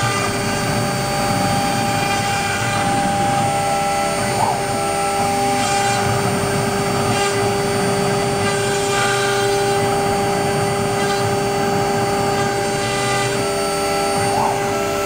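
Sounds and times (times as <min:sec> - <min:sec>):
cutter engraving wood: 0:00.0 - 0:15.0
router spindle whine: 0:00.0 - 0:15.0.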